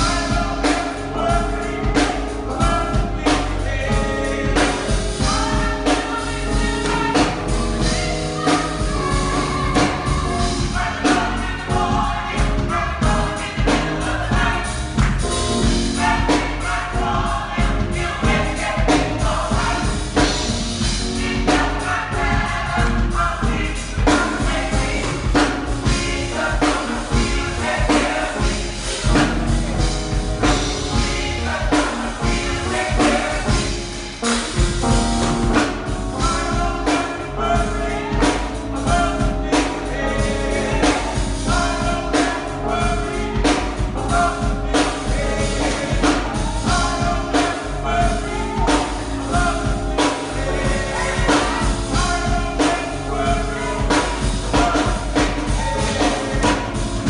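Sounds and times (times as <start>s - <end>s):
choir singing gospel: 0.0s - 57.0s
drum kit beat: 0.0s - 57.0s.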